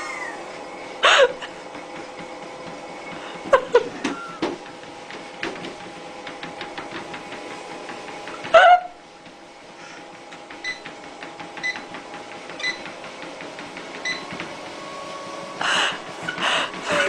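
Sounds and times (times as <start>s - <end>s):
treadmill motor hum: 0.0s - 17.0s.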